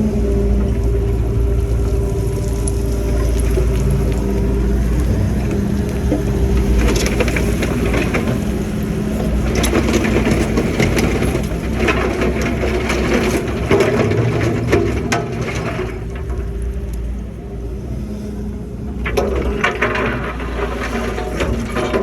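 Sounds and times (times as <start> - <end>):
excavator engine running: 0.0 - 22.0
crunching and clanking: 2.4 - 17.3, 18.9 - 22.0.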